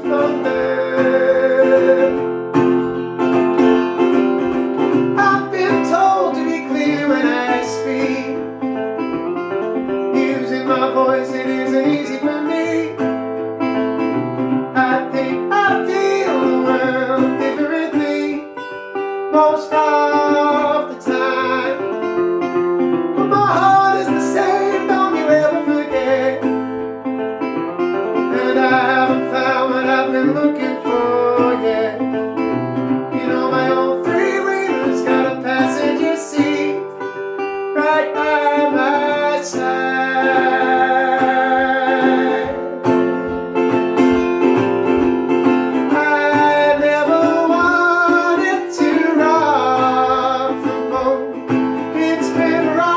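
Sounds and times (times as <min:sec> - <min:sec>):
acoustic guitar plucked and strummed: 0:00.0 - 0:52.9.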